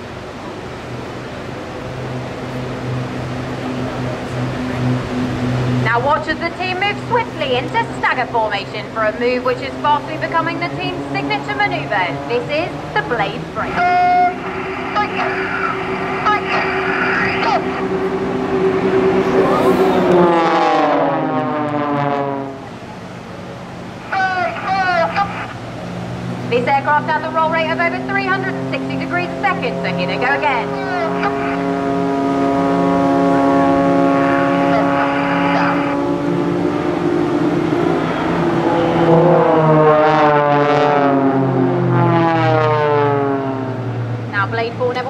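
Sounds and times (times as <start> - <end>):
propeller planes flying past: 0.0 - 45.0.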